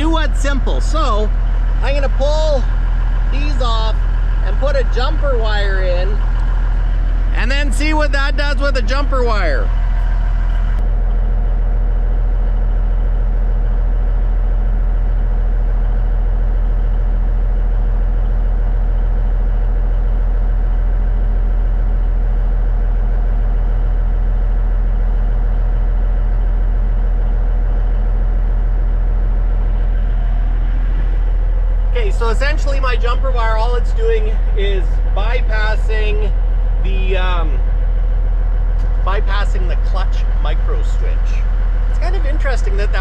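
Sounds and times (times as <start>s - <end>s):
truck diesel engine idling: 0.0s - 43.0s.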